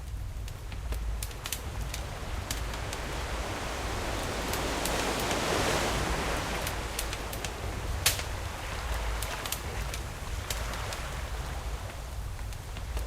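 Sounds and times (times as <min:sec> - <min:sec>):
campfire crackling: 0:00.0 - 0:13.0
sea waves washing onto shore: 0:00.0 - 0:13.0.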